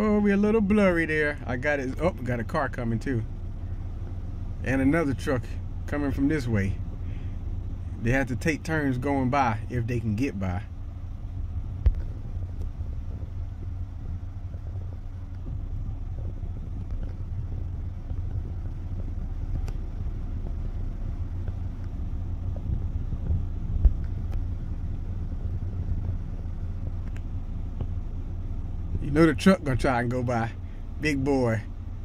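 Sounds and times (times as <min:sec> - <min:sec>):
heavy vehicle engines rumbling: 0:00.0 - 0:32.0.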